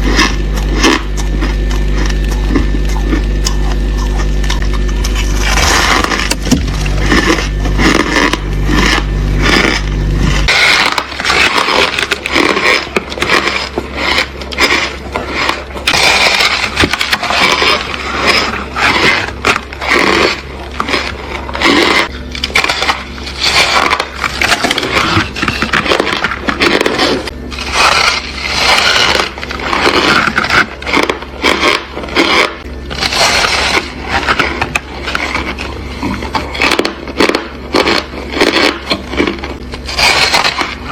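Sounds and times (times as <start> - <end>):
ice being chewed: 0.0 - 40.9
low steady hum: 0.0 - 40.9.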